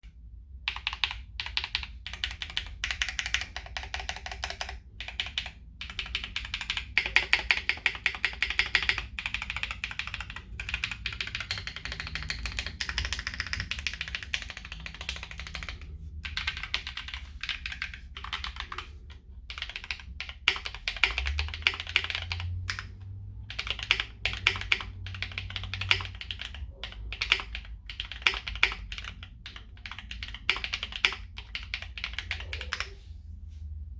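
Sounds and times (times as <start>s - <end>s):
mechanical keyboard typing: 0.6s - 33.0s.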